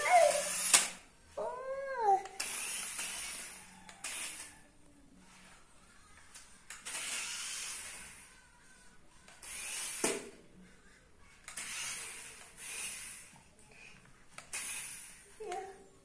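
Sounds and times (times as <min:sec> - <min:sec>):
toy truck motor whirring: 0:00.0 - 0:15.8.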